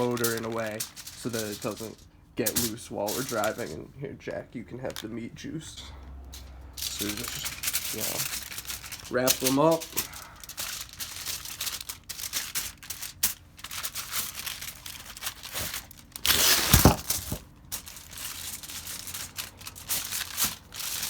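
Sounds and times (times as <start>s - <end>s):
aluminium foil crinkling: 0.0s - 3.8s, 6.4s - 21.0s.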